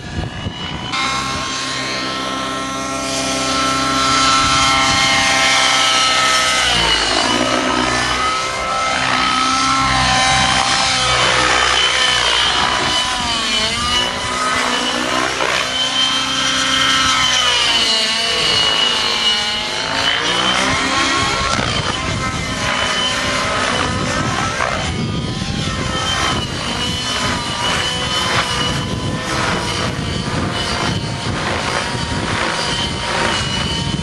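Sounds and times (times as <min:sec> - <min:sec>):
model helicopter engine and rotor: 0:00.0 - 0:34.0
steady high whine: 0:00.0 - 0:34.0.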